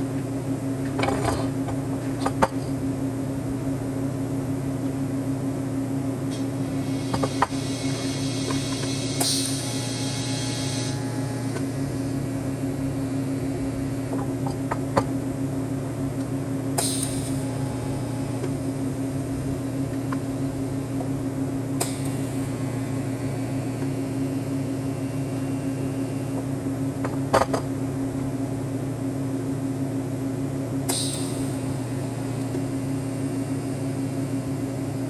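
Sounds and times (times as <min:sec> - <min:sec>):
steady machine hum: 0:00.0 - 0:35.0.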